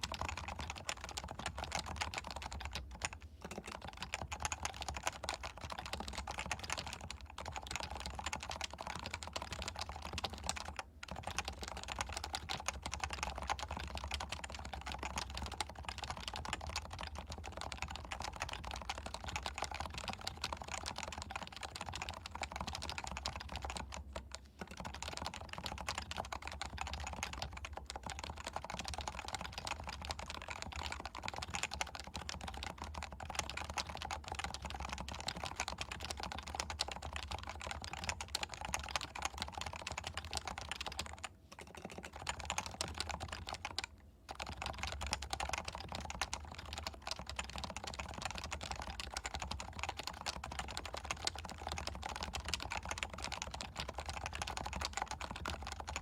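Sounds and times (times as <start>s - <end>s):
keyboard typing: 0.0s - 56.0s.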